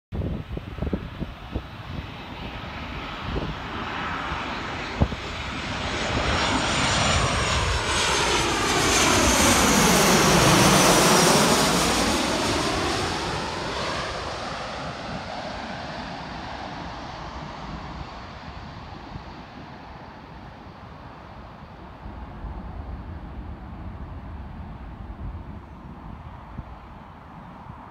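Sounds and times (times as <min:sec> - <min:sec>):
jet engine roar overhead: 0:00.2 - 0:27.9
sweeping whoosh of plane: 0:00.2 - 0:27.9.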